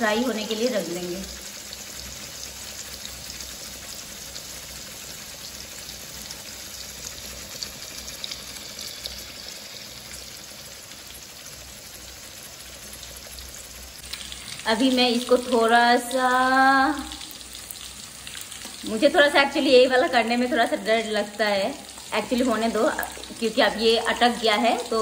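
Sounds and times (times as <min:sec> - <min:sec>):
fish frying in oil sizzling: 0:00.0 - 0:25.0.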